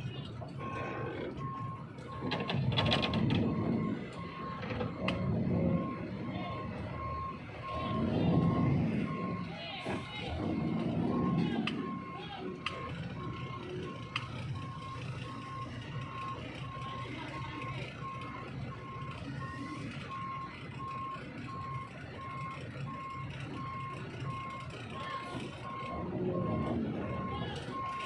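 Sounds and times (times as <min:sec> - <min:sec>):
heavy vehicle engine rumbling: 0:00.0 - 0:28.0
reversing alarm beeping: 0:00.0 - 0:28.0.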